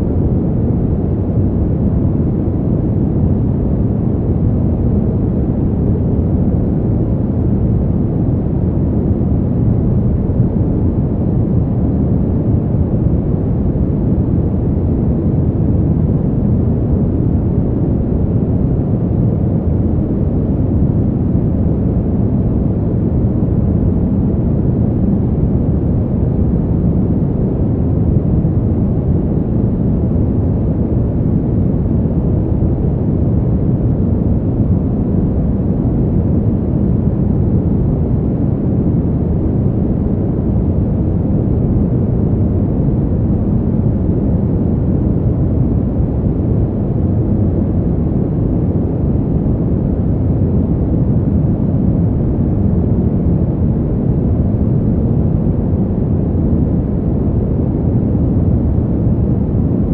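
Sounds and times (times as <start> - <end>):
deep rushing wind: 0.0 - 59.9.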